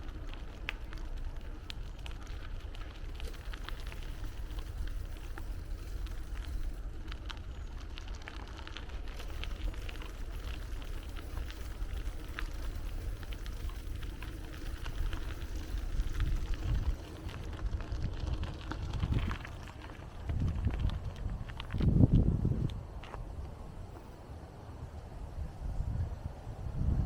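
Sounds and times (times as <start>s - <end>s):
wind rumble on microphone: 0.0s - 24.2s, 24.8s - 27.0s
bicycle tyres ticking on path: 0.0s - 27.0s.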